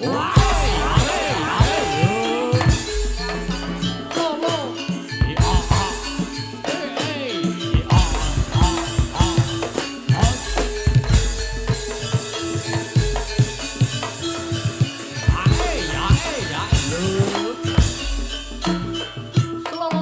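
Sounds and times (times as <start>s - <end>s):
hand drums playing fast: 0.0s - 20.0s
sliding melody line: 0.0s - 20.0s.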